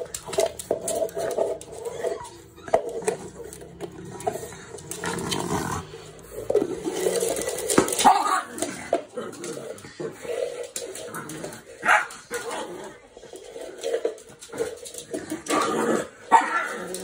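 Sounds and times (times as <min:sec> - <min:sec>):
dog growling in play: 0:00.1 - 0:17.0.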